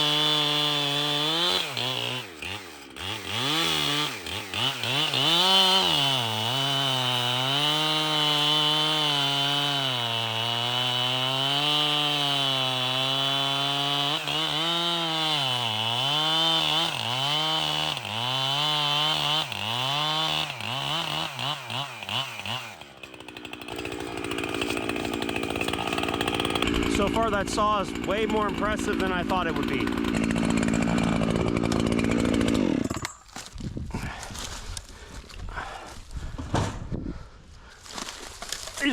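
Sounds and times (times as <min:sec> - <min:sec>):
chainsaw cutting wood: 0:00.0 - 0:35.0, 0:37.8 - 0:38.9.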